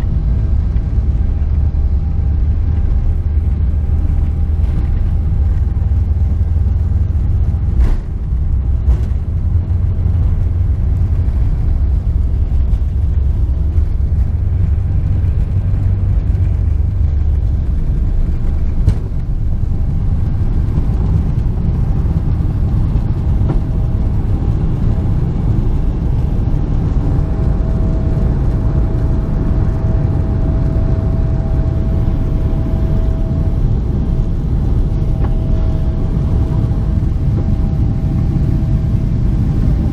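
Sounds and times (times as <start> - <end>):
jet engine cabin rumble: 0.0 - 39.9
steady whine: 0.0 - 39.9.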